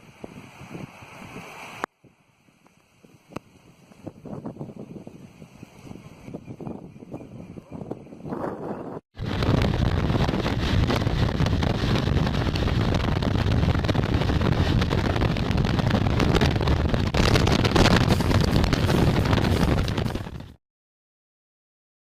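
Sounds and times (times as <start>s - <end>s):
strong wind buffeting microphone: 0.0s - 2.2s, 3.0s - 20.6s.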